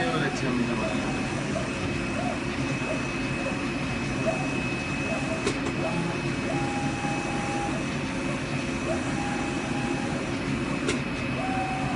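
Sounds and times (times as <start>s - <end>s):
cutting machine high whine: 0.0s - 11.9s.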